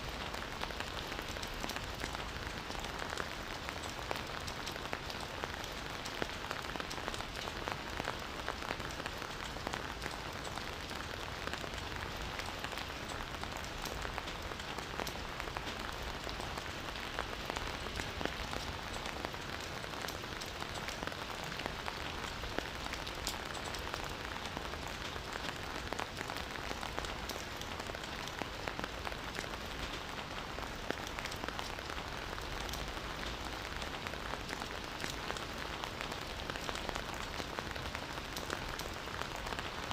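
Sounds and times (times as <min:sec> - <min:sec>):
raindrops ticking on surfaces: 0:00.0 - 0:39.9
steady rain hiss: 0:00.0 - 0:39.9.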